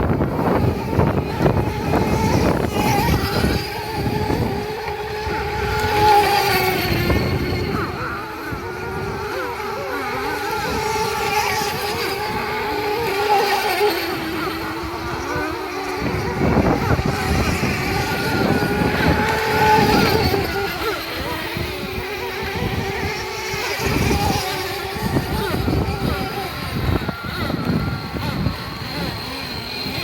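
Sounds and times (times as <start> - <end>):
rumbling wind noise: 0.0 - 13.2, 14.0 - 30.0
model boat motor whining: 0.0 - 30.0.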